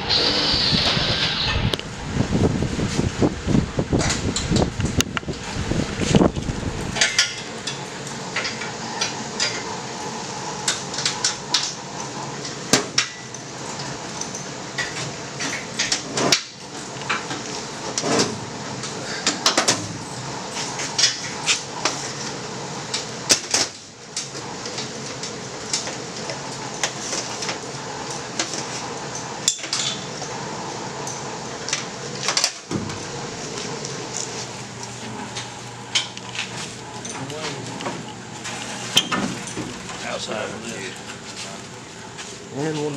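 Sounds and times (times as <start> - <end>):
steady hum: 0.0 - 42.9.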